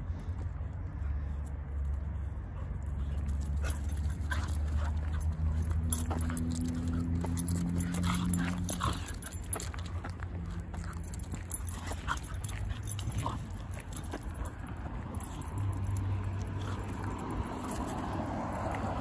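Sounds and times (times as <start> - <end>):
dogs play-fighting: 1.4 - 19.0.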